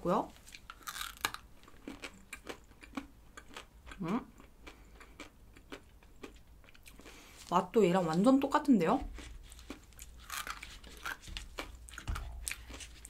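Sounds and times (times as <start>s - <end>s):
crunchy chewing: 0.4s - 7.5s, 9.1s - 13.0s.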